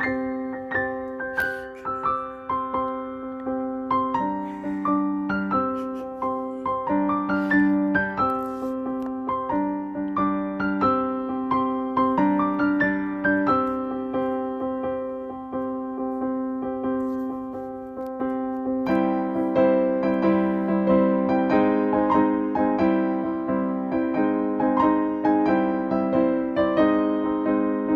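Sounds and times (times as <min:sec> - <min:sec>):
gentle piano melody: 0:00.0 - 0:27.9.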